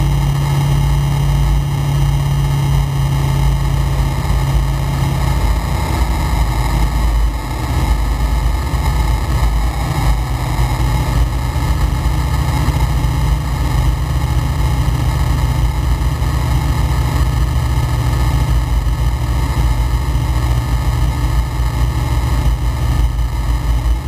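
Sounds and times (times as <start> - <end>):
light aircraft engine running: 0.0 - 24.0
rush of airflow: 0.0 - 24.0.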